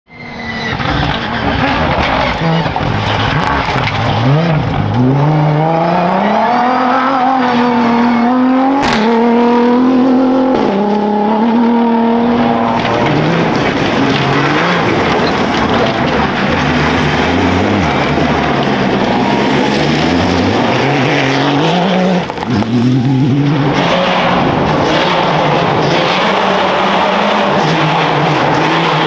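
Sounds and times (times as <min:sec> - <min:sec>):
car engine revving: 0:00.3 - 0:29.0.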